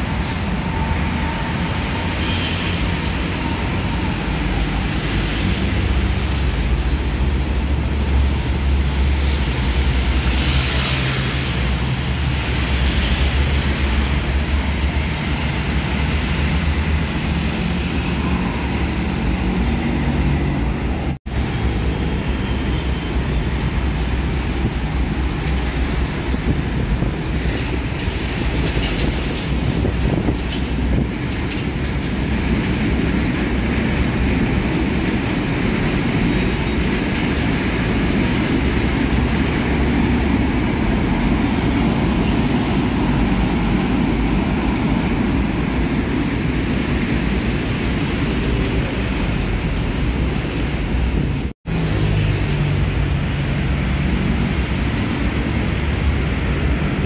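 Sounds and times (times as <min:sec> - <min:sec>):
heavy road traffic rumble: 0:00.0 - 0:57.0.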